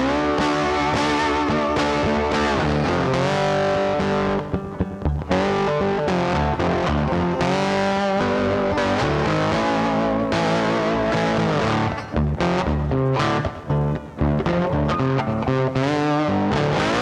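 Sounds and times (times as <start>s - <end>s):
bass guitar: 0.0s - 17.0s
distorted electric guitar: 0.0s - 17.0s.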